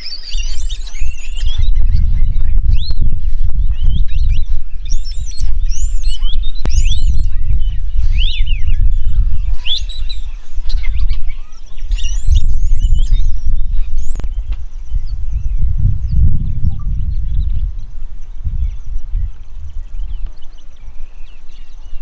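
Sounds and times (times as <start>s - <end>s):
low rumble: 0.0s - 22.0s
starlings chirping: 0.0s - 22.0s.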